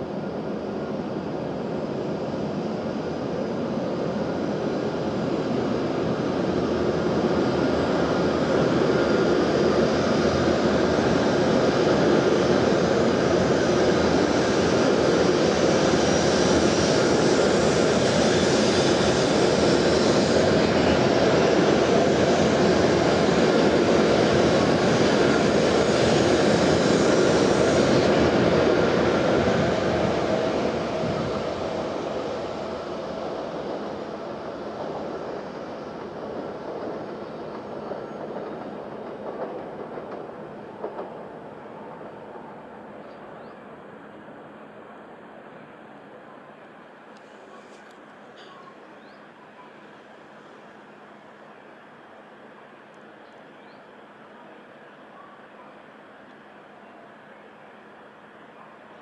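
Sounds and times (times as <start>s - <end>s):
high-speed train passing: 0.0s - 59.0s.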